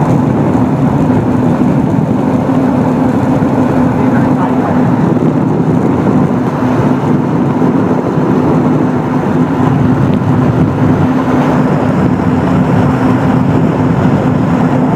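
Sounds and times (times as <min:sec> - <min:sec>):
jet ski engine running: 0:00.0 - 0:14.9.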